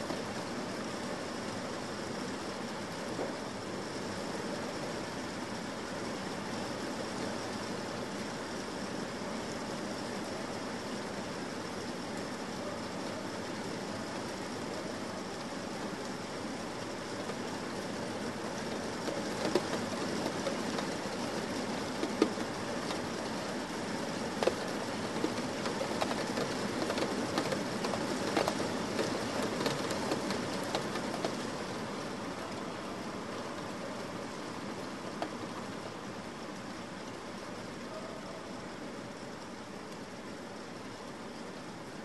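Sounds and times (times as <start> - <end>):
steady rain hiss: 0.0 - 42.0.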